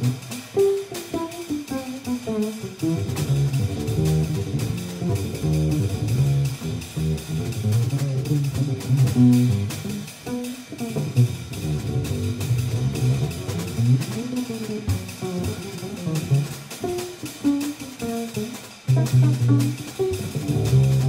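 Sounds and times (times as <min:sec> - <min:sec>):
jazz trio playing: 0:00.0 - 0:21.0
light cymbal strokes: 0:00.0 - 0:21.0
plucked double bass: 0:00.0 - 0:21.0.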